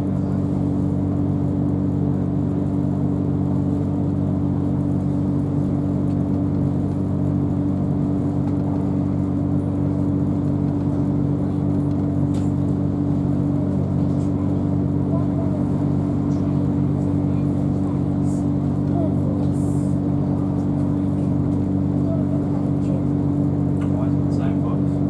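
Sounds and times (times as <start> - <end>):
train electric hum: 0.0 - 25.0
wheel and track rumble: 3.8 - 25.0.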